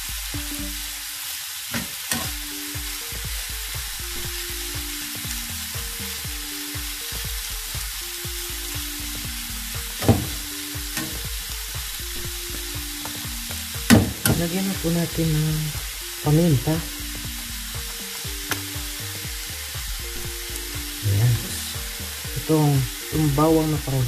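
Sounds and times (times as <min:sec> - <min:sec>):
broccoli sizzling in frying pan: 0:00.0 - 0:24.0.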